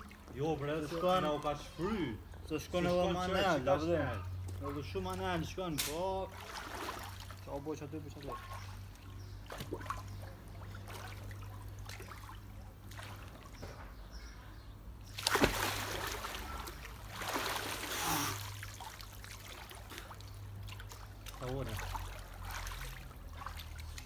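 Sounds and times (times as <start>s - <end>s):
water splashing in a pool: 0.0s - 1.8s, 4.3s - 13.8s, 15.0s - 24.0s.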